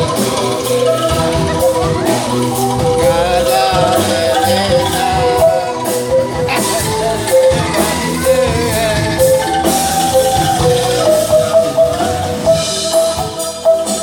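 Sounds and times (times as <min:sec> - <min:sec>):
bamboo rattles playing melody: 0:00.0 - 0:14.0
band playing: 0:00.0 - 0:14.0
drums: 0:00.0 - 0:14.0.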